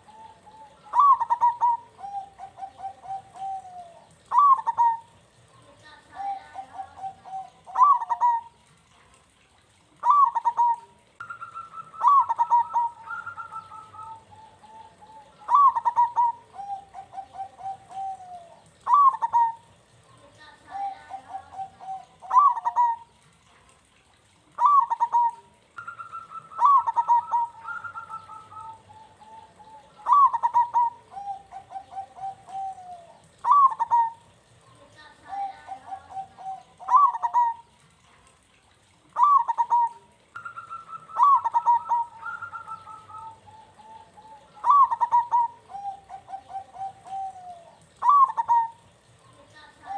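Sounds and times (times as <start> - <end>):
dove cooing: 0.0 - 23.3, 24.5 - 38.0, 39.0 - 49.9.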